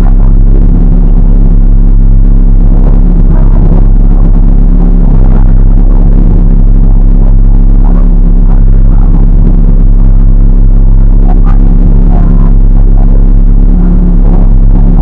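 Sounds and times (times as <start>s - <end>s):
rally car engine idling: 0.0s - 15.0s.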